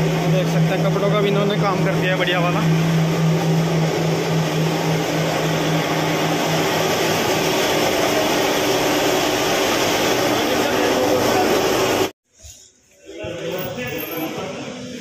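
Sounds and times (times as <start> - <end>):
loud machinery noise: 0.0 - 12.2.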